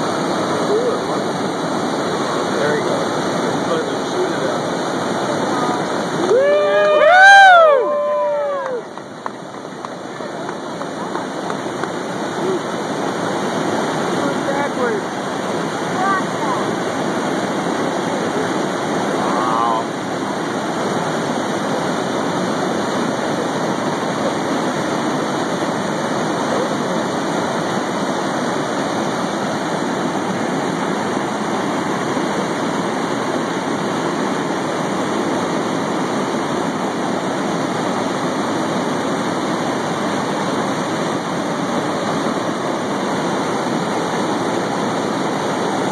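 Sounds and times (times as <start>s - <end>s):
river water pouring over dam: 0.0s - 45.9s.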